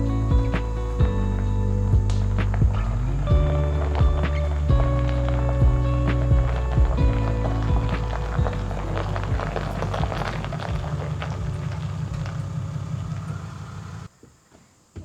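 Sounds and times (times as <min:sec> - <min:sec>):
truck engine rumbling: 0:00.0 - 0:14.1.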